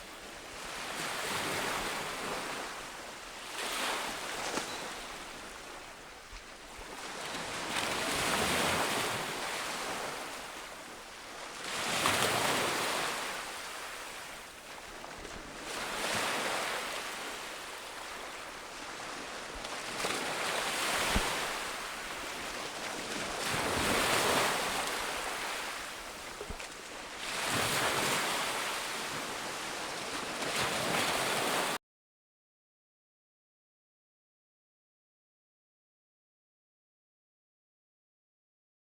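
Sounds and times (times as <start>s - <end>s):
waves breaking on a beach: 0.0s - 31.8s.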